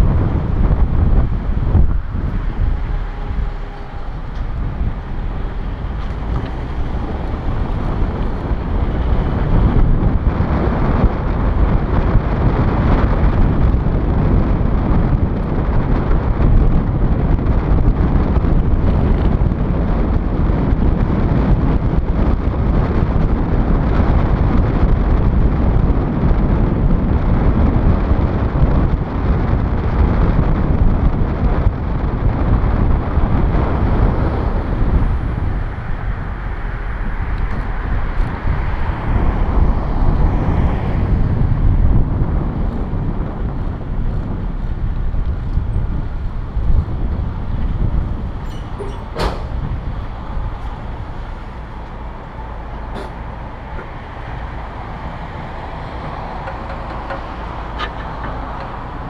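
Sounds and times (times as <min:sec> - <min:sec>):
road and engine rumble: 0:00.0 - 0:59.0
wind buffeting microphone: 0:00.0 - 0:59.0.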